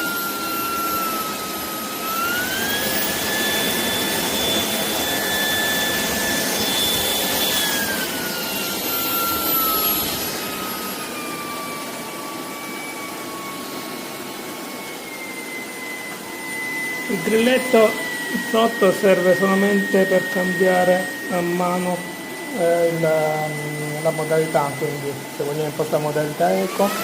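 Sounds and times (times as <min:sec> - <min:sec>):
vacuum cleaner motor whine: 0:00.0 - 0:27.0.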